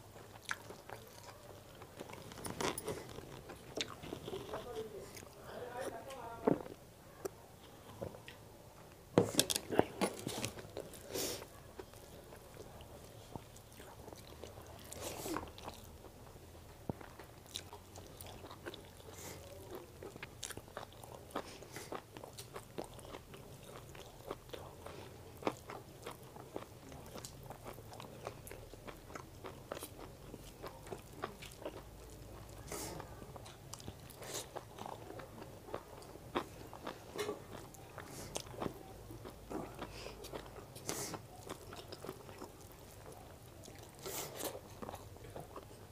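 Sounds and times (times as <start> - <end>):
chewing and mouth sounds: 0.0 - 5.4, 9.3 - 45.9.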